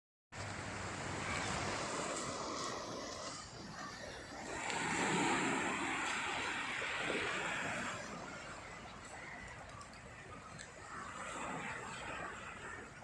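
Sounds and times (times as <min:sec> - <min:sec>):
sea surf washing ashore: 0:00.4 - 0:13.0.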